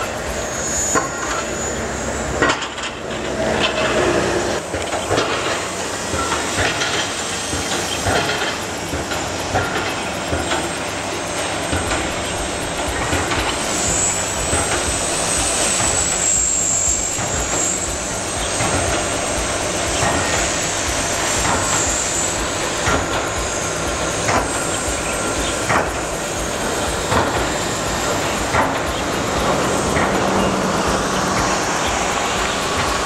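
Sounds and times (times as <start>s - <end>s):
rc helicopter motor whine: 0.0s - 33.0s
rotor noise rushing: 0.0s - 33.0s.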